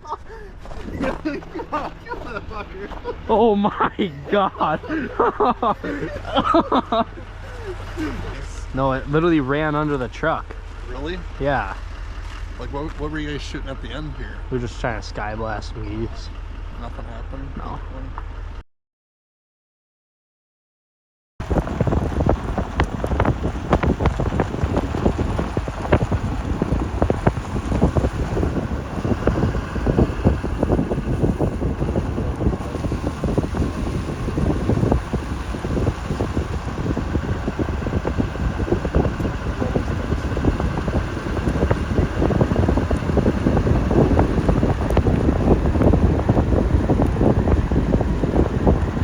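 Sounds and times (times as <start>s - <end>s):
wind buffeting microphone: 0.0s - 18.4s, 21.4s - 49.0s.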